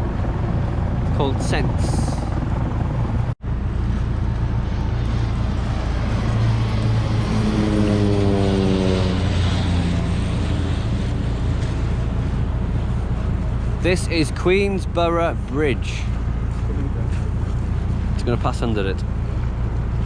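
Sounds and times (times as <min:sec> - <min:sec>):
boat engine droning: 0:00.0 - 0:20.0
passing engine: 0:00.0 - 0:20.0
wind: 0:00.0 - 0:20.0.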